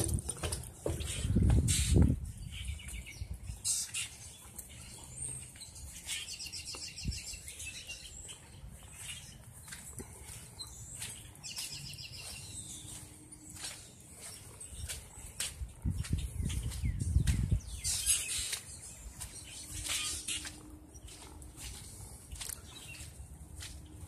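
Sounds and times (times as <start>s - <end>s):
birds chirping in trills: 0.0s - 24.0s.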